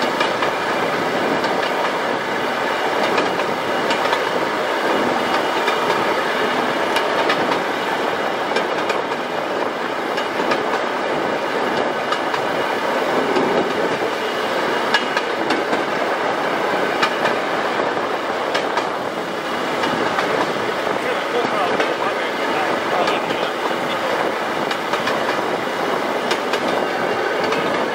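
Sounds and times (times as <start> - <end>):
rail motor car rumbling: 0.0 - 27.9
wheels clicking over rail joints: 0.0 - 27.9.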